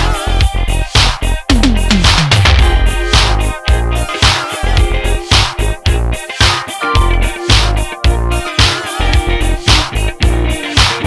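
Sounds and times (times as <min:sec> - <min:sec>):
funk music with bass beat: 0:00.0 - 0:11.0.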